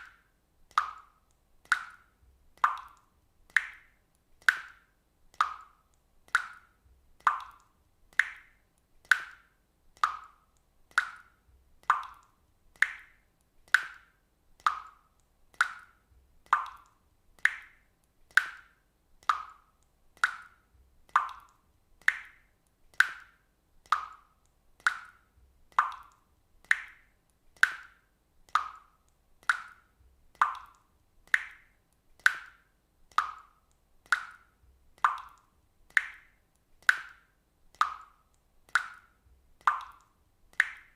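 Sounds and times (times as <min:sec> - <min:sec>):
water drops plopping into water: 0:00.0 - 0:40.9.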